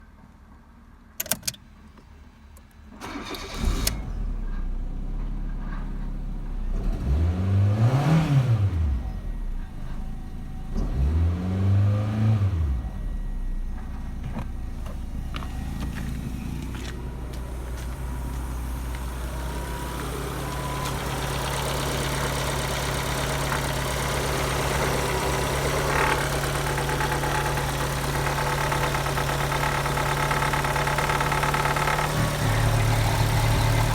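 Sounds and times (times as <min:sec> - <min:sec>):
car engine starting and revving: 0:03.0 - 0:05.1, 0:06.2 - 0:33.9.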